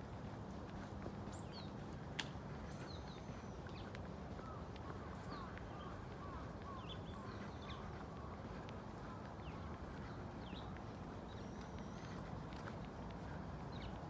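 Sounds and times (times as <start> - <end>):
low background noise: 0.0 - 14.0
small birds chirping: 0.1 - 14.0.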